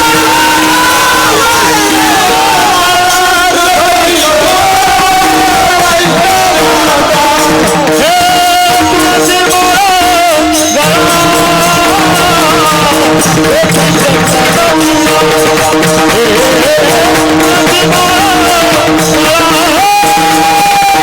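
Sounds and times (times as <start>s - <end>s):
held drone accompaniment: 0.0s - 21.0s
man singing devotional melody: 0.0s - 21.0s.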